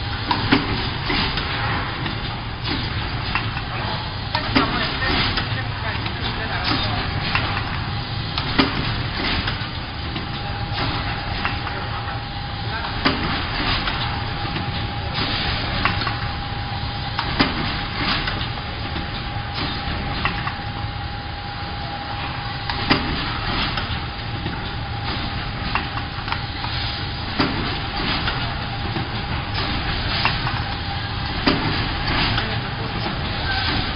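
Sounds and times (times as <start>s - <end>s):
machine hum and whine: 0.0s - 33.9s.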